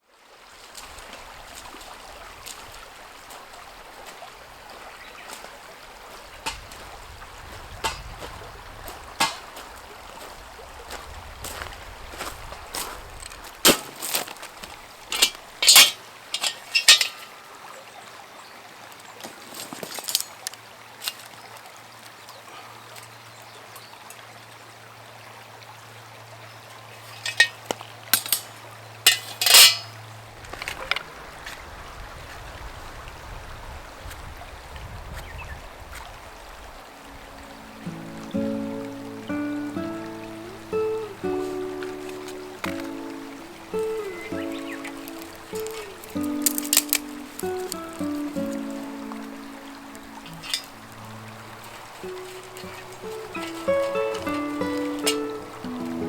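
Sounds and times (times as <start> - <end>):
water trickling: 0.2 - 30.4, 36.3 - 56.0.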